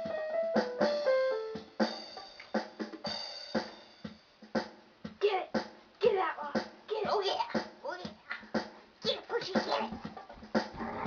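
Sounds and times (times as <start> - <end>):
electronic keyboard drum beat: 0.0 - 10.9.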